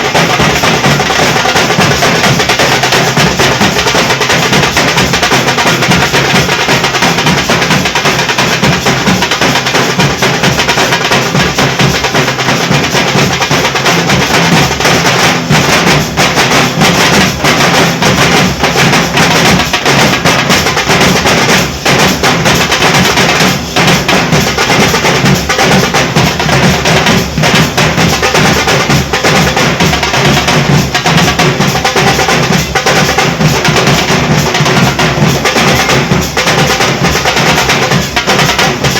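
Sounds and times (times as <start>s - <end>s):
drum group beating fast rhythm: 0.0s - 38.9s.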